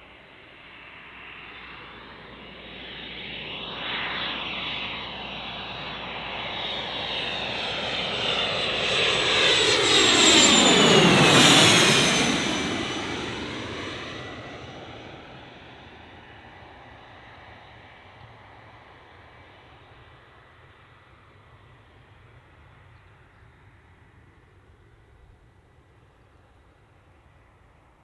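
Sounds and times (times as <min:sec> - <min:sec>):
jet passing overhead: 0:00.1 - 0:25.1.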